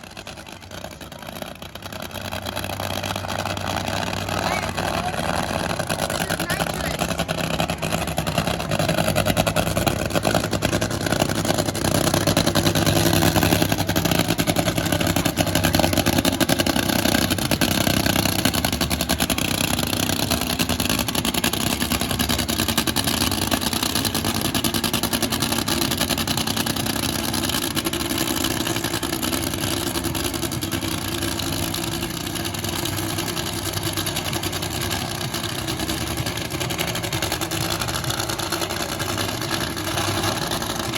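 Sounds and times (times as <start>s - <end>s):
race car engine drone: 0.0s - 40.9s.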